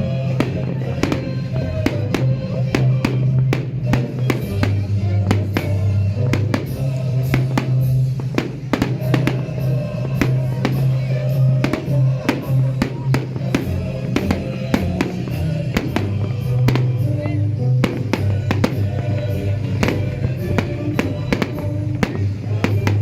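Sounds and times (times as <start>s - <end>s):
fireworks bangs: 0.0s - 23.0s
loud music with heavy bass: 0.0s - 23.0s.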